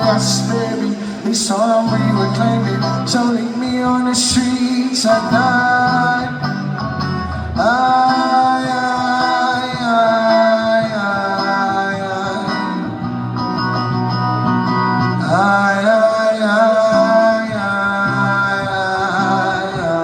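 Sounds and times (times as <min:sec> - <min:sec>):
guitar-led band: 0:00.0 - 0:20.0.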